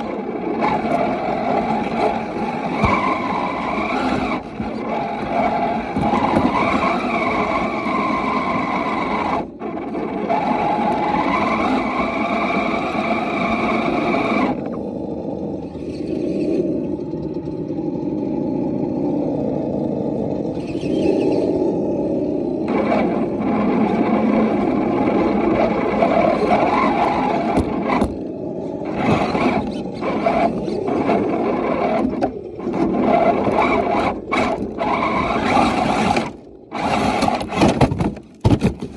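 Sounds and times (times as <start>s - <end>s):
electric motor and gears whining: 0.0s - 38.9s.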